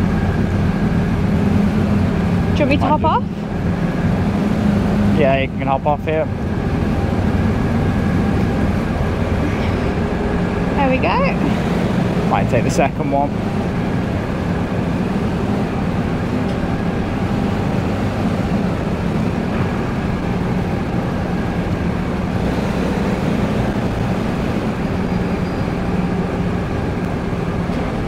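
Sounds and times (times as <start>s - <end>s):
low engine drone: 0.0s - 28.0s.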